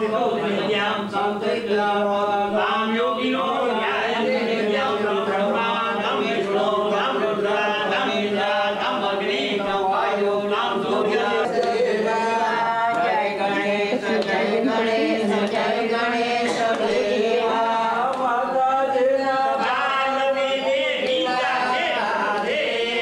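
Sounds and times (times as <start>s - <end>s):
group of voices chanting a hymn: 0.0s - 23.0s.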